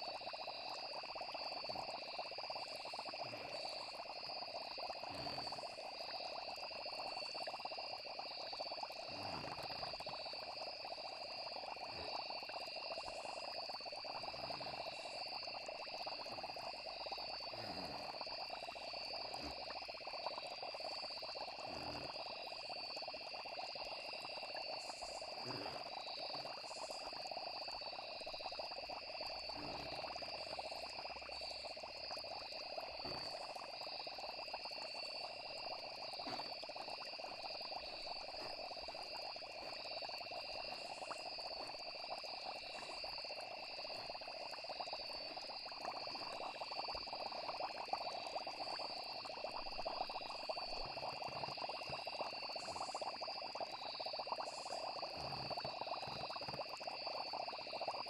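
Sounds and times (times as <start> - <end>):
frogs croaking: 0.0 - 58.0
insects trilling: 0.0 - 58.0.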